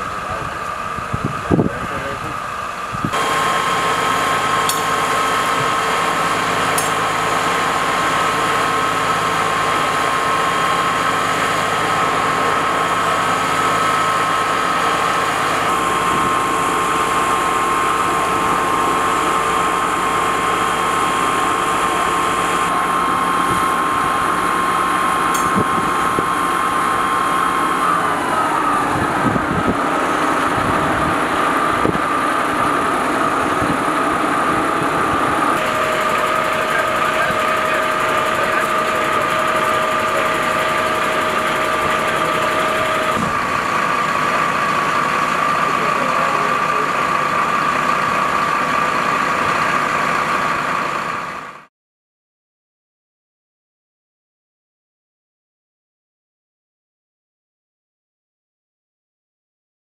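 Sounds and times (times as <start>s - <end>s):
high whine: 0.0s - 49.2s
fire engine pump running: 0.0s - 51.7s.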